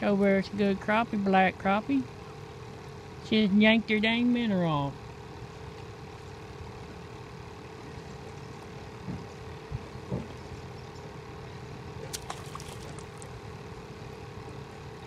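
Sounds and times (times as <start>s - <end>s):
engine idling hum: 0.0s - 15.0s.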